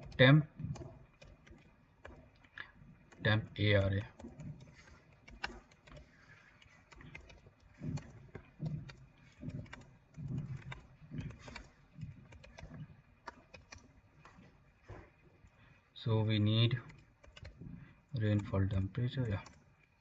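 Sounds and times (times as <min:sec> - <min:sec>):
keyboard typing: 0:00.0 - 0:20.0.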